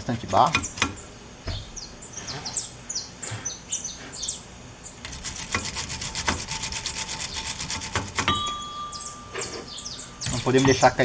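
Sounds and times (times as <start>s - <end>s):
fast scrubbing: 0.0s - 8.5s, 9.6s - 11.0s
birds chirping: 0.0s - 11.0s.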